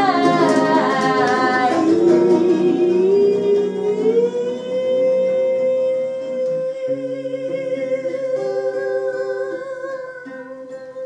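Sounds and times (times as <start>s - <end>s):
acoustic guitar picking: 0.0s - 11.0s
woman singing a held note: 0.0s - 11.0s.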